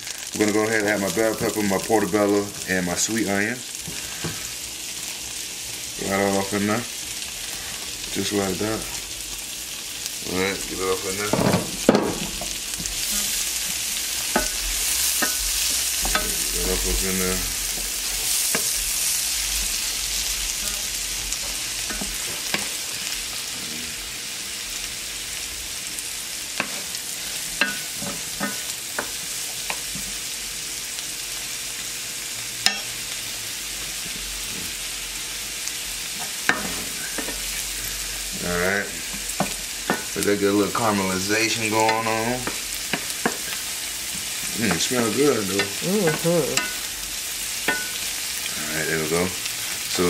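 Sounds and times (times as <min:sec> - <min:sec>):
vegetables sizzling in a frying pan: 0:00.0 - 0:50.0.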